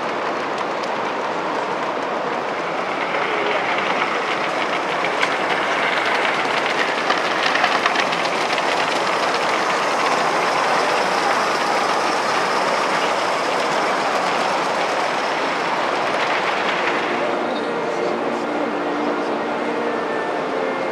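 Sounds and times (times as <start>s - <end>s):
train wheels clicking over rail joints: 0.0s - 17.6s
steady steam hiss: 0.0s - 20.9s.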